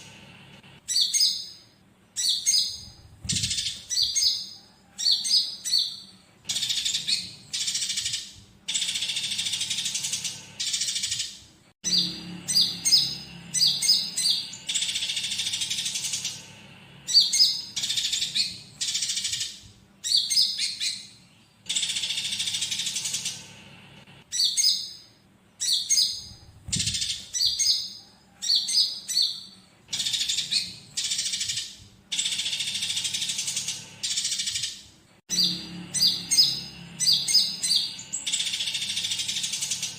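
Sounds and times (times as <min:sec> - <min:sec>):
sparrows chirping and squabbling: 0:00.0 - 0:39.9
sunbird song: 0:00.8 - 0:23.6, 0:24.2 - 0:39.9.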